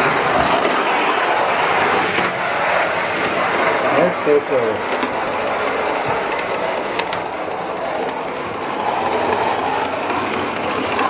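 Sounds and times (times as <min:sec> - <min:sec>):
model steam locomotive chuffing: 0:00.0 - 0:11.0
steam hiss: 0:00.0 - 0:11.0.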